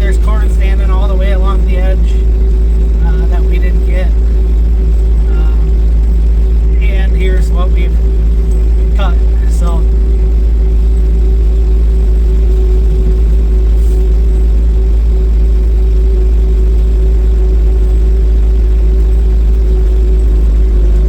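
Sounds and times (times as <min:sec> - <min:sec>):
skid loader engine running: 0:00.0 - 0:21.0.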